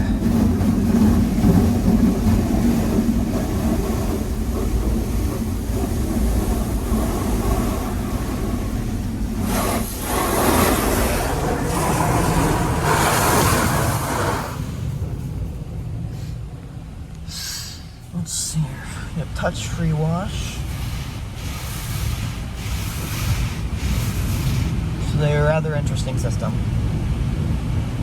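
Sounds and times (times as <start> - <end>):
machine low drone: 0.0 - 27.5
water jets spraying on car: 0.4 - 15.0, 18.2 - 26.4.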